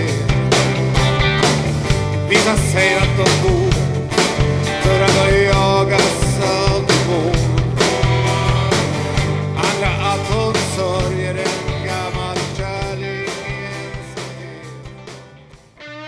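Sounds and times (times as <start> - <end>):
acoustic guitar: 0.0 - 16.0
drum kit: 0.0 - 16.0
electric bass: 0.0 - 16.0
keyboards: 0.0 - 16.0.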